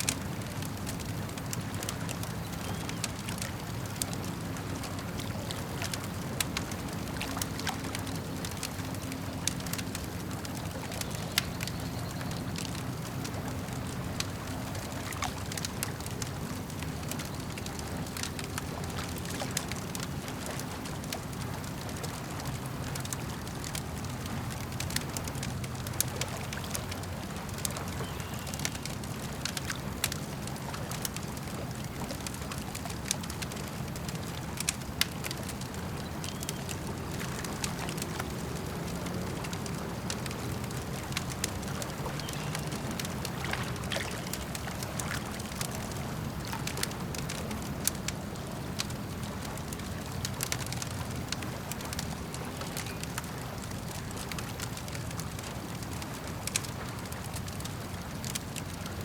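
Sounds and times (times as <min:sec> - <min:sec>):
campfire crackling and popping: 0:00.0 - 0:59.0
lake water lapping: 0:00.0 - 0:59.0.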